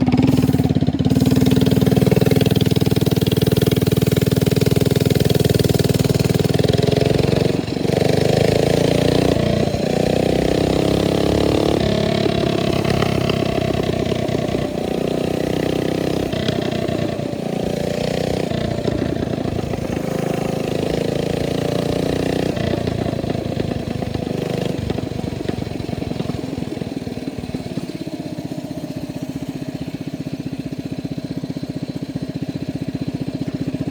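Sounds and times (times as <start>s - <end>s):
small engine revving: 0.0s - 33.9s.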